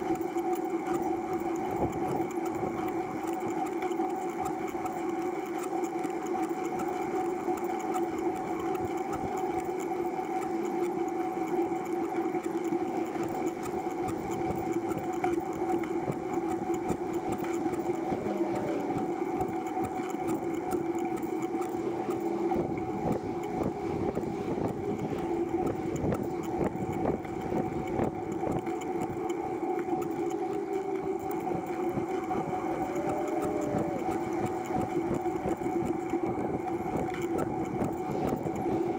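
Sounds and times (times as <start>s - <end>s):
trike drivetrain whirring: 0.0s - 38.9s.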